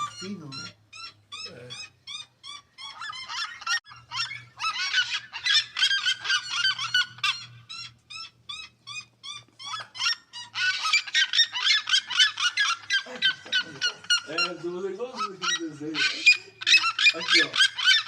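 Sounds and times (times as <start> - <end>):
birds calling harsh notes: 0.0 - 18.0.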